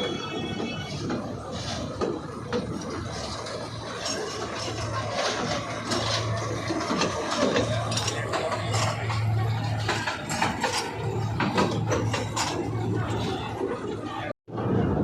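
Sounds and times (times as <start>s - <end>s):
machinery rattling and clicking: 0.0s - 14.3s
low machinery hum: 0.0s - 15.0s.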